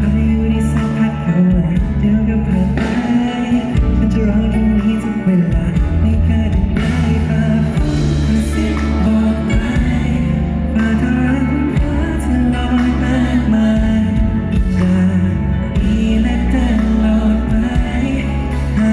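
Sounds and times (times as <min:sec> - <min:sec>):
man singing pop song with band: 0:00.0 - 0:18.9.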